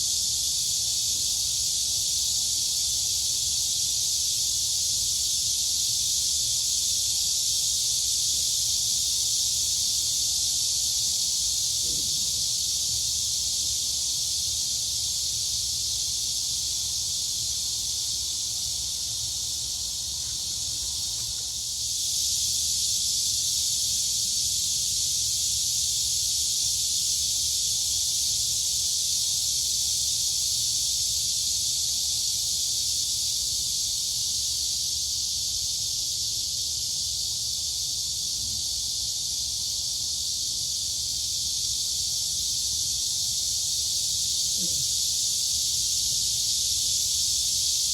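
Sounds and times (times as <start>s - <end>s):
crickets and cicadas chorus: 0.0s - 47.9s.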